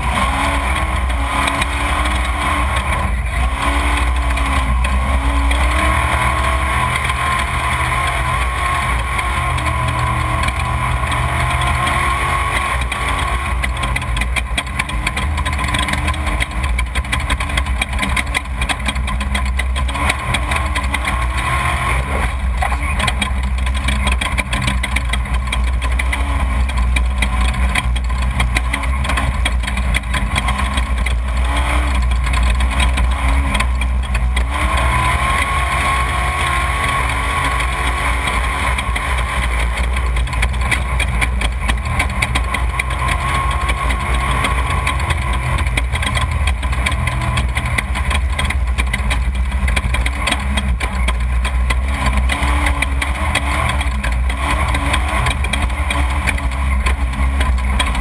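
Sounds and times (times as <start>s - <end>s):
engine rumbling: 0.0s - 58.0s.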